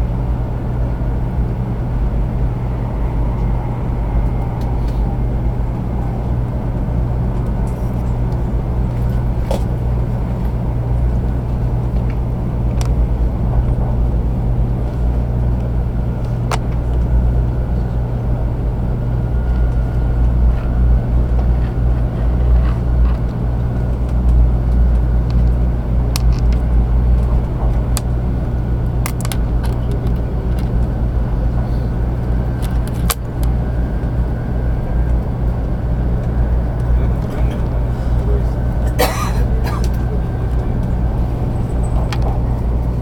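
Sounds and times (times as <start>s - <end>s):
train cabin rumble: 0.0s - 43.0s.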